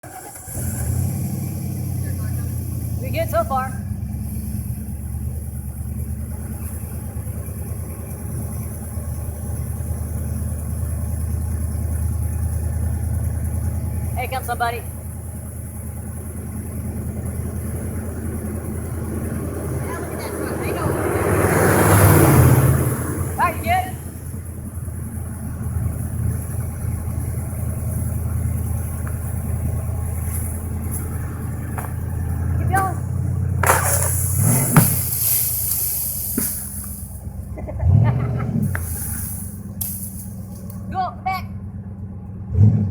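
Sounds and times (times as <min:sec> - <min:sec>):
excavator diesel engine running: 0:00.0 - 0:42.8.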